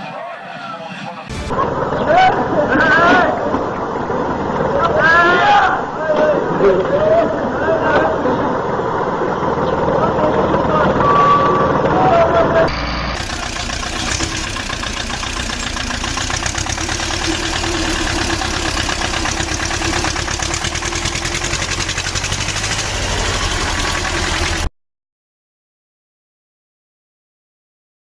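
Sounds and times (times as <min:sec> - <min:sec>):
truck engine running: 0:01.1 - 0:24.7.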